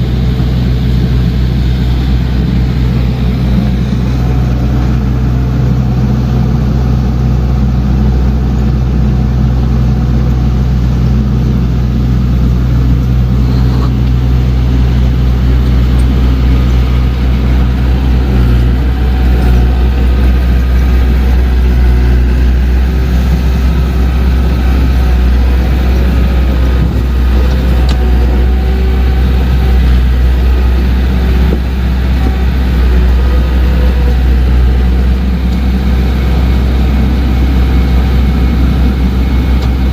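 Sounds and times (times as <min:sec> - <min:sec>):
diesel engine rumbling: 0:00.0 - 0:39.9.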